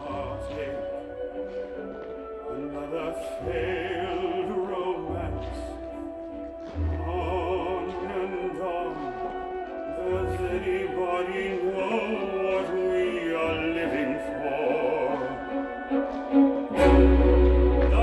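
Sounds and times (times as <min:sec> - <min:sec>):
grand orchestral music: 0:00.0 - 0:18.0.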